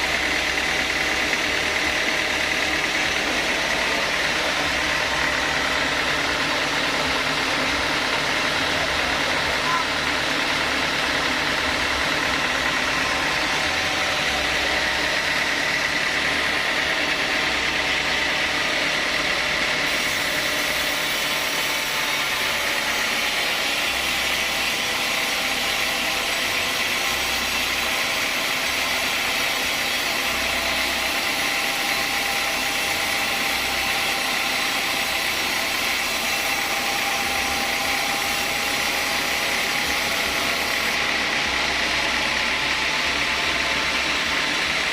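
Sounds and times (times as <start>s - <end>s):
sawmill saw whining: 0.0s - 44.9s.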